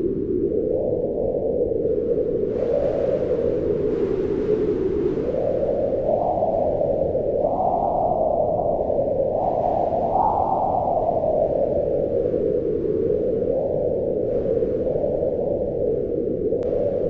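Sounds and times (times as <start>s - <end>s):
storm wind howling: 0.0s - 17.0s.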